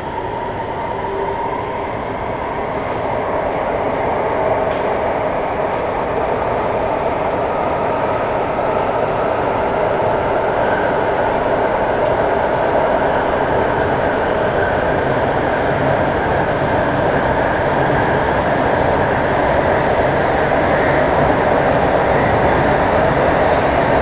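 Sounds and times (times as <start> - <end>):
train wheels running on rail: 0.0 - 24.0.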